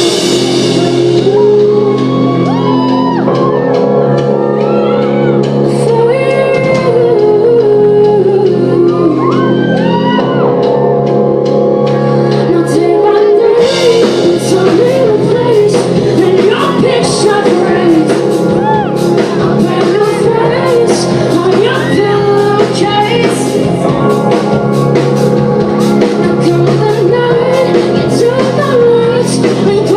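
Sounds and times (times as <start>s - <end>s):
woman singing: 0.0s - 10.9s, 11.8s - 25.0s, 25.8s - 29.9s
drums and cymbals: 0.0s - 29.9s
rock band playing live: 0.0s - 29.9s.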